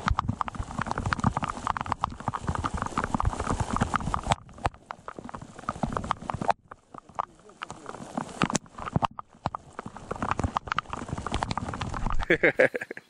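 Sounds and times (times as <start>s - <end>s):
heavy rain on plastic and water: 0.0s - 12.4s.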